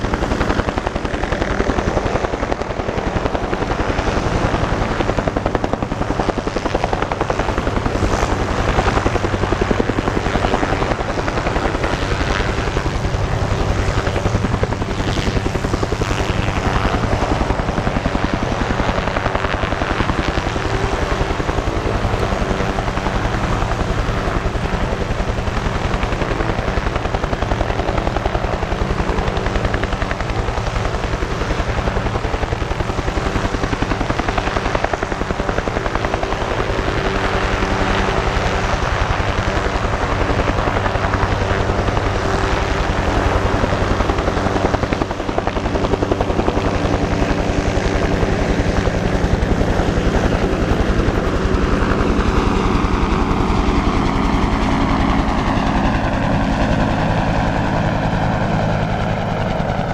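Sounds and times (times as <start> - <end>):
helicopters hovering: 0.0 - 59.9.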